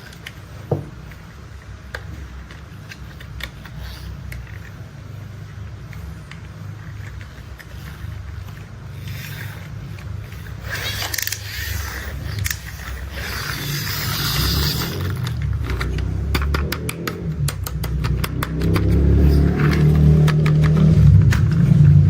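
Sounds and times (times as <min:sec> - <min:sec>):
toy vehicles scraping: 0:00.0 - 0:22.0.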